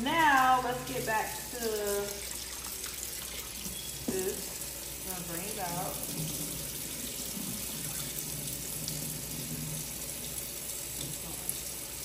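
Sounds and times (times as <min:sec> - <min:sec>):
faucet running into sink: 0:00.1 - 0:12.0.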